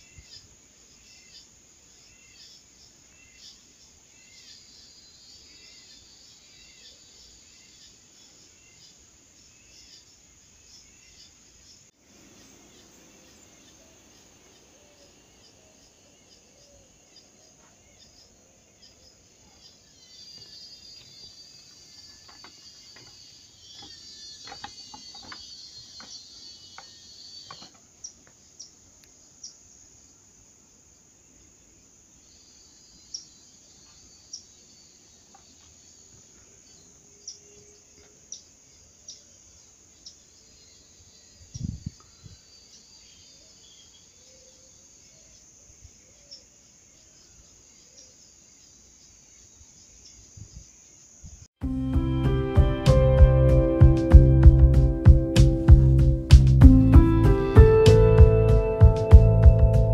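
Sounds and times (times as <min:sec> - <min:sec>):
small birds chirping: 0:00.0 - 0:51.5.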